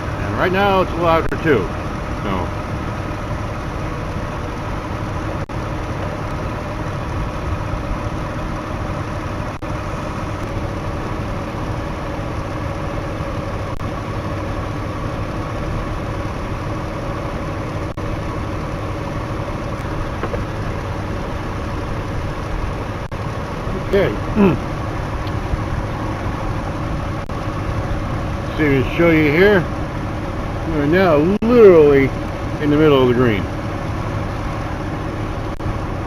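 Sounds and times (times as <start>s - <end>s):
air conditioning running: 0.0s - 36.0s
car engine idling: 0.0s - 36.0s.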